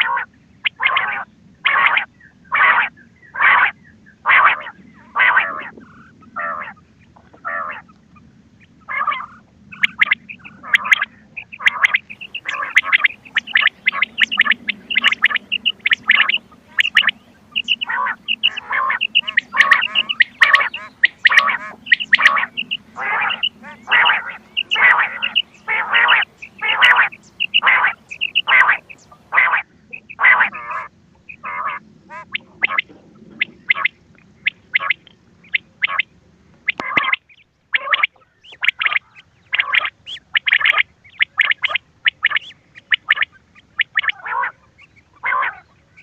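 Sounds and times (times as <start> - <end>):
quail calling: 0.0 - 46.0.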